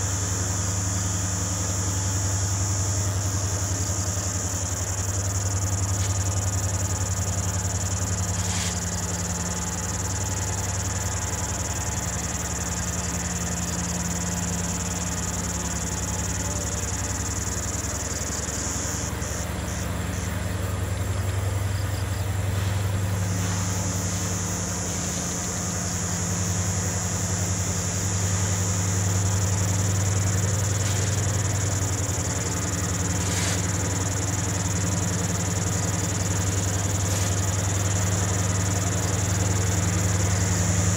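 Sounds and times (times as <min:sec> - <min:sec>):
insects trilling: 0:00.0 - 0:40.9
locomotive diesel engines droning: 0:00.0 - 0:40.9.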